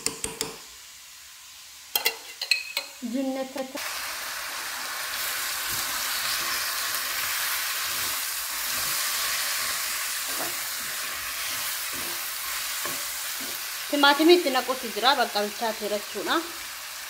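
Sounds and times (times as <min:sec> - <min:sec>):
food sizzling in a pan: 0:00.4 - 0:17.0.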